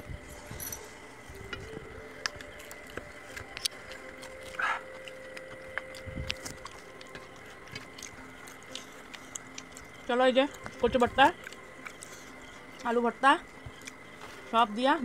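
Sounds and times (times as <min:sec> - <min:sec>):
faint steady background tone: 0:00.0 - 0:15.0
mouth eating noise: 0:00.8 - 0:14.2
fingers squishing soft food: 0:01.0 - 0:14.5.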